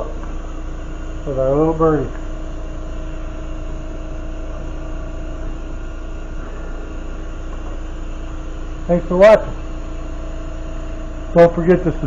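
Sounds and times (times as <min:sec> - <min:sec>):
higher hum tone: 0:00.0 - 0:12.0
workshop equipment hum and rumble: 0:00.0 - 0:12.0.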